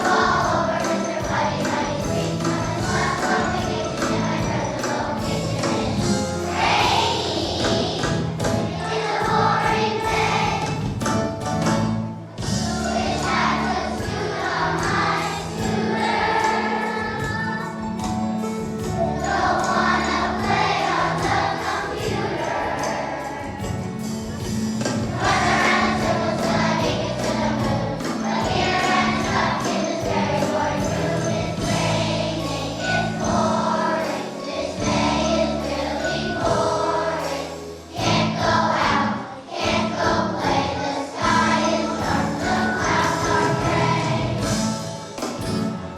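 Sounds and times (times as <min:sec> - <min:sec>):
children's choir singing: 0:00.0 - 0:45.9
instrumental accompaniment with beat: 0:00.0 - 0:45.9.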